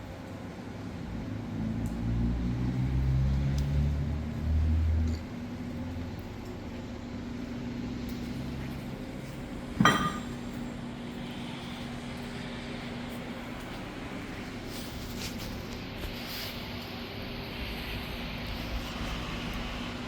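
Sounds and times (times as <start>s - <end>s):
steady low hum: 3.9s - 20.0s.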